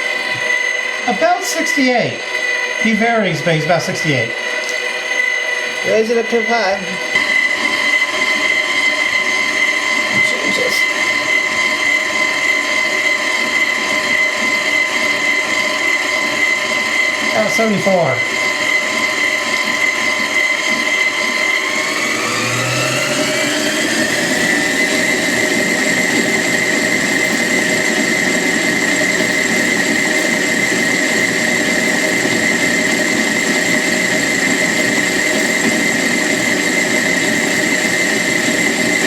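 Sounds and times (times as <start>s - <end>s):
stand mixer motor whine: 0.0s - 39.0s.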